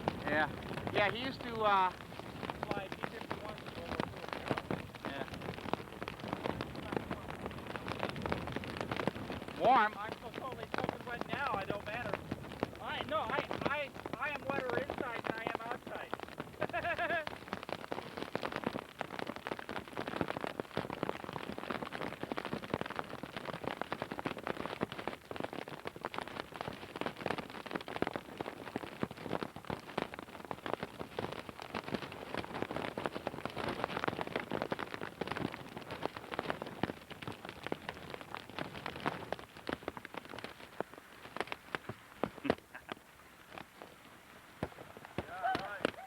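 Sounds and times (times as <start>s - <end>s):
heavy rain on hard surface: 0.0s - 46.0s.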